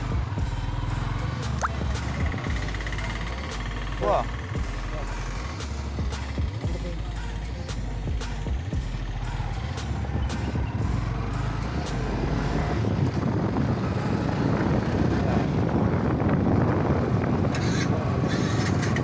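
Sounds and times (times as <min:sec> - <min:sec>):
motorcycle engine rumble: 0:00.0 - 0:19.0
road and wind noise: 0:00.0 - 0:19.0.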